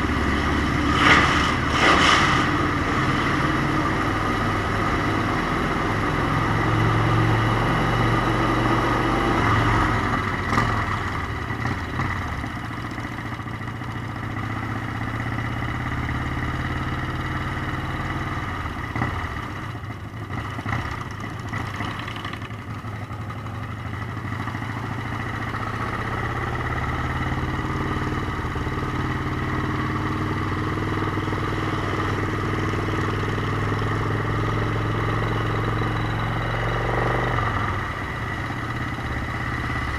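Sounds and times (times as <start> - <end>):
motorcycle engine running: 0.0 - 1.9, 2.7 - 39.9.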